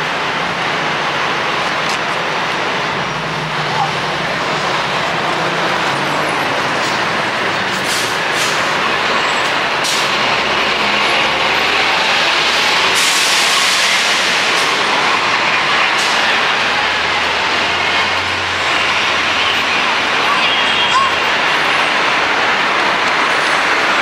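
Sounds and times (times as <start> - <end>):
moving vehicle noise: 0.0 - 24.0.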